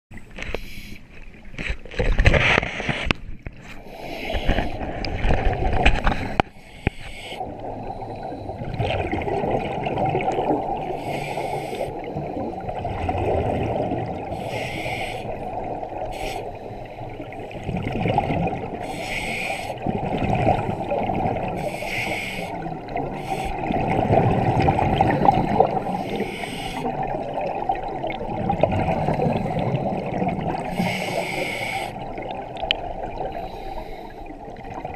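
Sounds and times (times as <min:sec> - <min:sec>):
exhaled bubbles hissing: 0:03.7 - 0:34.9.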